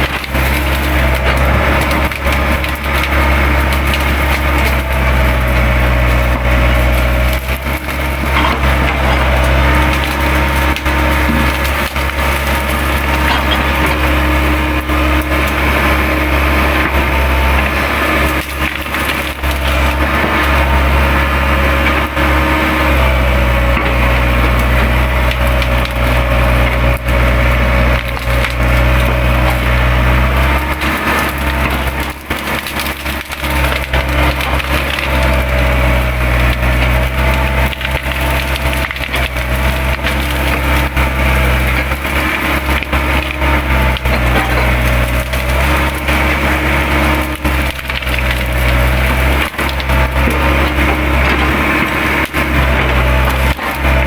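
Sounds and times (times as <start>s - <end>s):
branches cracking and splintering: 0.0s - 54.0s
excavator diesel engine under load: 0.0s - 54.0s.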